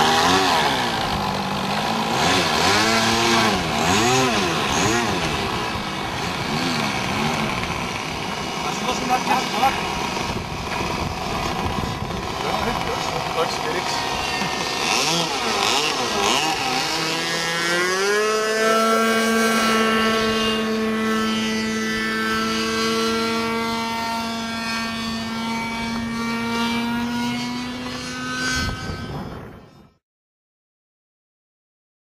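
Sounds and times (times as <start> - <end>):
model airplane engine buzzing: 0.0 - 30.0.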